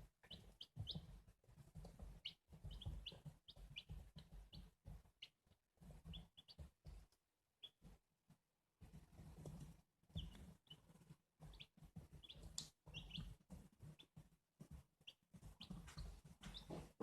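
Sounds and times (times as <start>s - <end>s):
chicks peeping: 0.2s - 7.0s, 7.6s - 8.0s, 8.8s - 17.0s.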